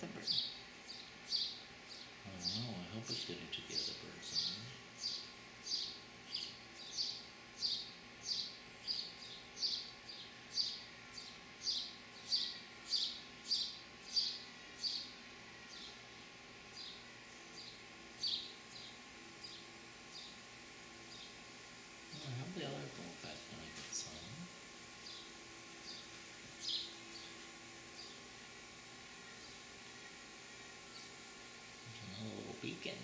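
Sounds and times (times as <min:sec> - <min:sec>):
sparrows chirping: 0:00.1 - 0:21.5, 0:22.2 - 0:33.0.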